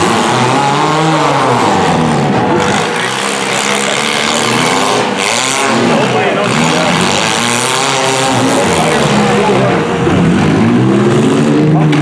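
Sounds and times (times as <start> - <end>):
engines revving: 0.0 - 12.0
track loader diesel passing: 0.0 - 12.0.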